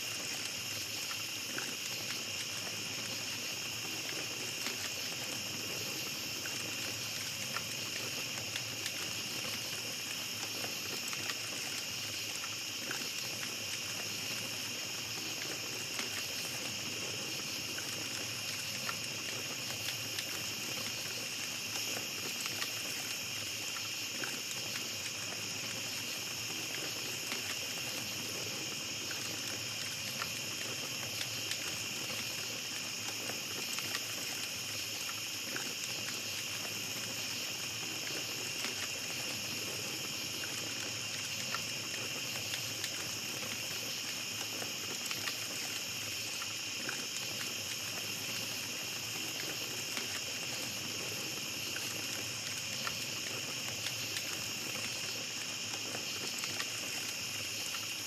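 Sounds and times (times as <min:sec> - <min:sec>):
campfire crackling and popping: 0:00.0 - 0:58.0
night insects chirping: 0:00.0 - 0:58.0.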